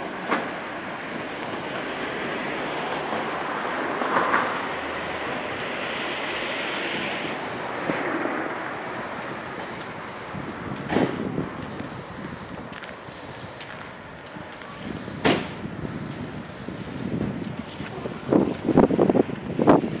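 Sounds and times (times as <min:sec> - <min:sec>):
passing street traffic: 0:00.0 - 0:20.0
wind on microphone: 0:01.0 - 0:20.0.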